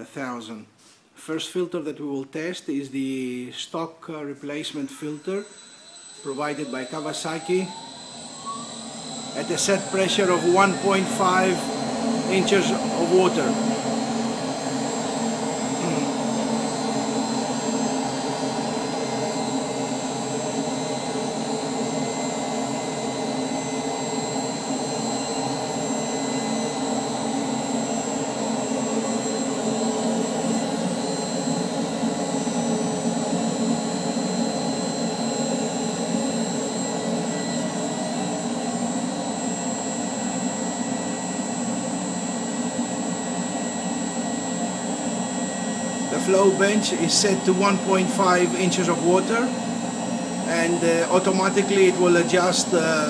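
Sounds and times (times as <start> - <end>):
blower rushing air with whine: 4.5 - 53.0.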